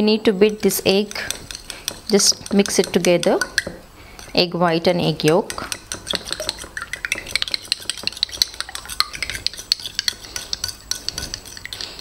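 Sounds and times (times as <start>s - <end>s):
spoon clattering against bowl: 0.5s - 4.4s, 5.3s - 12.0s.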